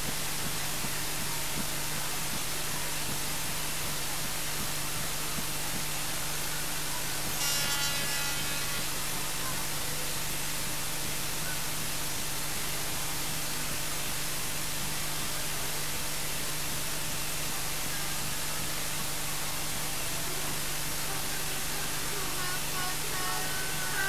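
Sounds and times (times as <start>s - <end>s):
low electrical hum: 0.0s - 24.0s
static hiss: 0.0s - 24.0s.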